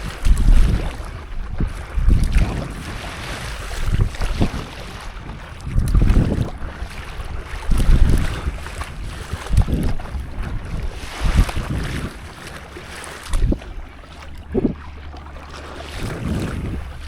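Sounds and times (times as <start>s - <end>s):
water sloshing around a paddleboard: 0.0s - 17.0s
wind buffeting microphone: 0.0s - 17.0s.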